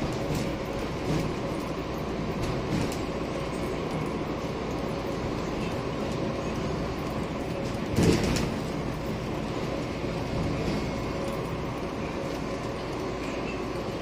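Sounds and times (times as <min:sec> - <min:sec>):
bus diesel engine: 0:00.0 - 0:14.0
road rumble: 0:00.0 - 0:14.0.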